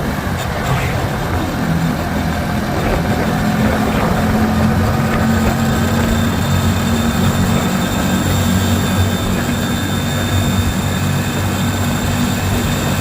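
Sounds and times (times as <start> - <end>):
motorcycle engine running: 0.0 - 13.0
thin high whine: 0.0 - 13.0.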